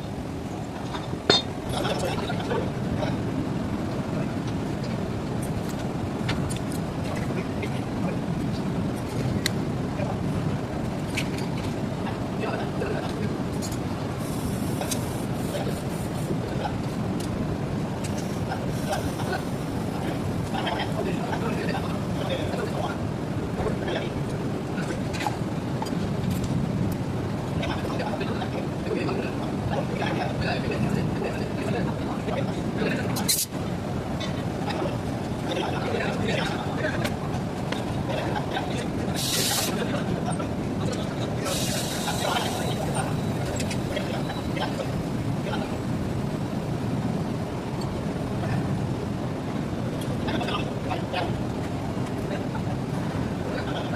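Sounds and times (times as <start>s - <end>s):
engine room machinery rumble: 0.0s - 53.9s
faint voices: 0.0s - 53.9s.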